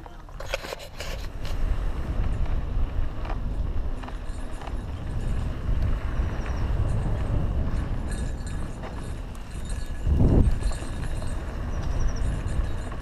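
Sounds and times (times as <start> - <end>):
bike clicks and rattles: 0.0 - 13.0
tyres rolling on dirt: 0.0 - 13.0
wind rumble on microphone: 0.0 - 13.0.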